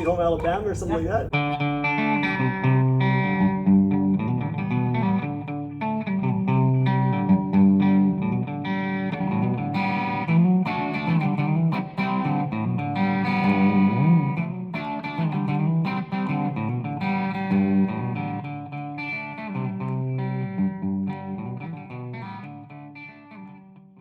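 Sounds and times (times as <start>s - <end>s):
electric guitar riff: 0.0s - 24.0s.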